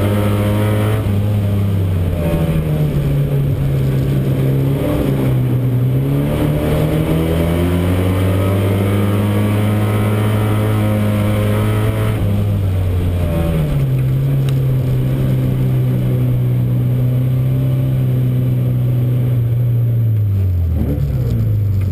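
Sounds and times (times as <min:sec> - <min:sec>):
race car engine revving: 0:00.0 - 0:19.6.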